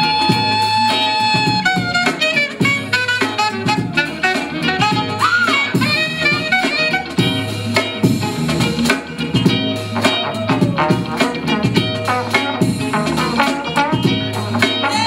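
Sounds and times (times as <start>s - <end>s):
breakbeat music with horn-like melody: 0.0s - 15.0s.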